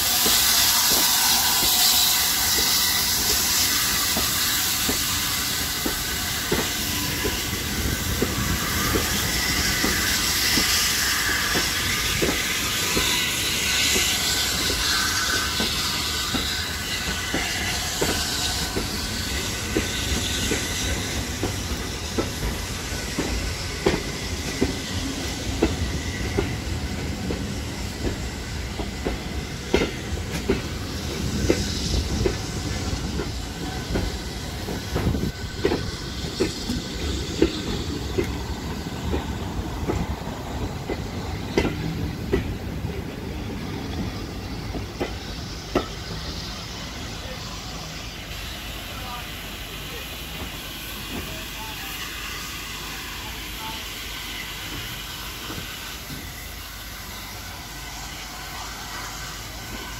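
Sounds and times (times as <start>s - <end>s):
steam hissing: 0.0s - 59.9s
train wheels clacking on rails: 0.0s - 59.9s.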